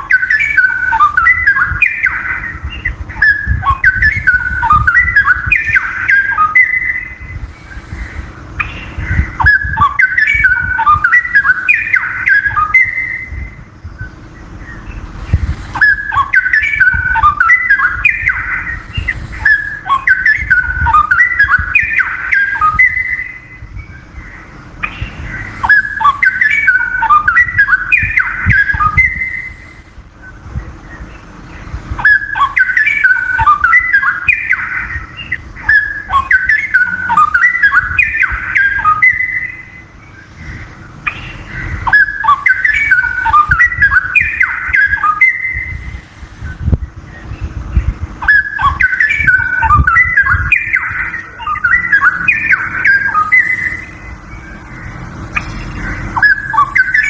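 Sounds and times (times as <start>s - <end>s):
bird singing warbling phrases: 0.0s - 57.0s.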